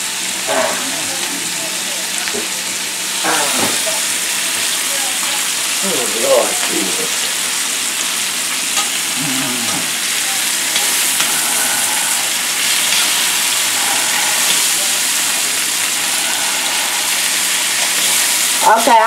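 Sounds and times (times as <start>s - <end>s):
meat and onions sizzling in oil: 0.0s - 19.0s.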